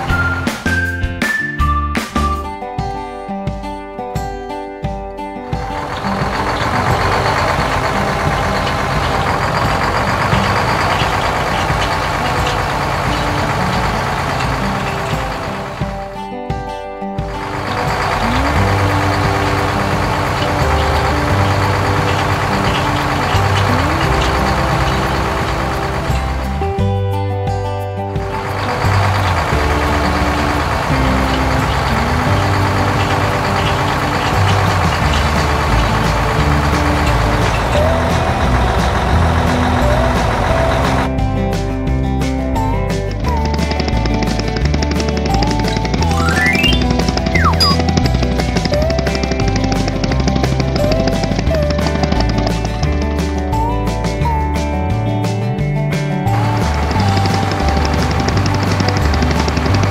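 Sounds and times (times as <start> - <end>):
combine harvester running: 0.0 - 1.4, 5.4 - 16.2, 17.2 - 27.2, 28.0 - 53.8, 55.7 - 59.9.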